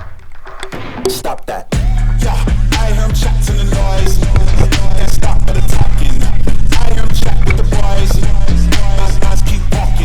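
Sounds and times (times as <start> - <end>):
hip-hop backing track: 0.0 - 10.0.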